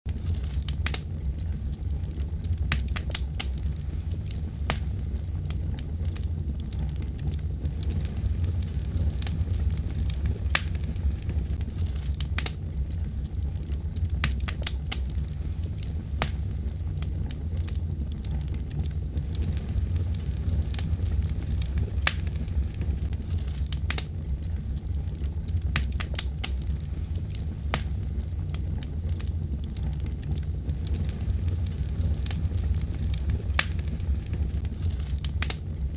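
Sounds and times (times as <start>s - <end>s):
fire crackling: 0.0s - 35.9s
low rumble of flames: 0.0s - 35.9s.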